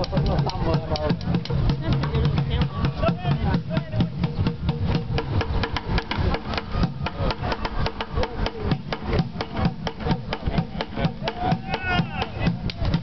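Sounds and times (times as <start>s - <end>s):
drumming on plastic buckets: 0.0s - 13.0s.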